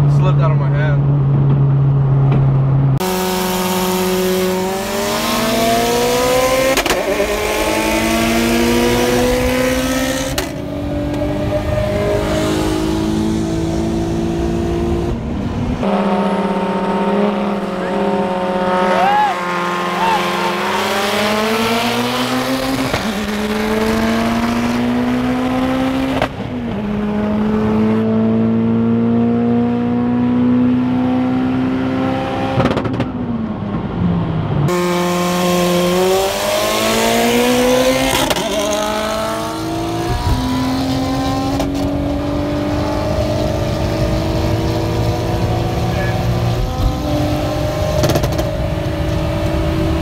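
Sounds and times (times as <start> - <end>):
turbocharged car engines accelerating: 0.0 - 50.0.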